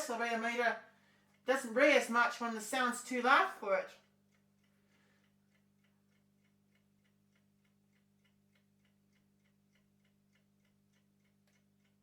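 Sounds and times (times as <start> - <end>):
faint regular ticking: 0.0 - 12.0.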